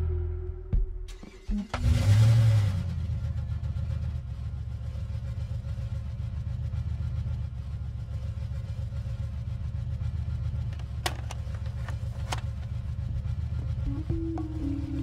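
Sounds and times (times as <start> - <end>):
vehicle engine idling: 1.2 - 15.0.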